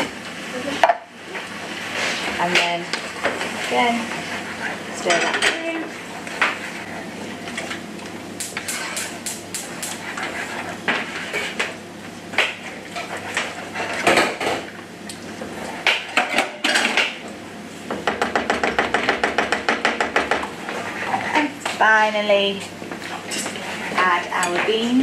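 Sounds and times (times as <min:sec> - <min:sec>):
wooden spoon stirring in saucepan: 0:01.3 - 0:16.4, 0:18.9 - 0:25.0.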